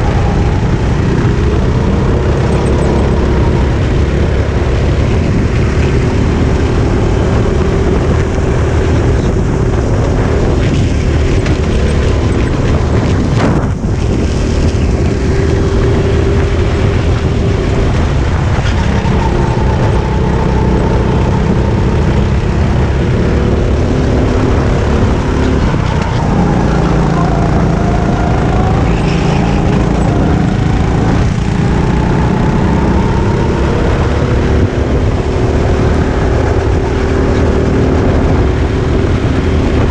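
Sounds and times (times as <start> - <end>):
go-kart engine running hard: 0.0 - 39.9
steady rush of noise: 0.0 - 39.9.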